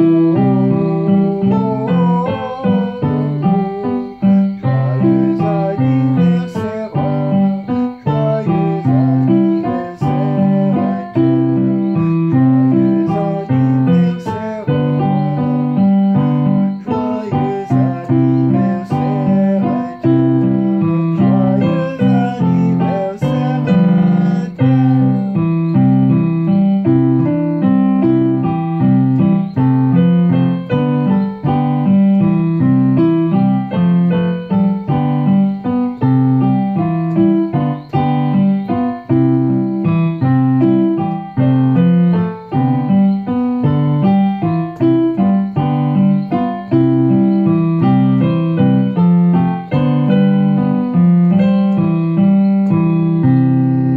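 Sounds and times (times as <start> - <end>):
electronic keyboard melody: 0.0 - 53.9.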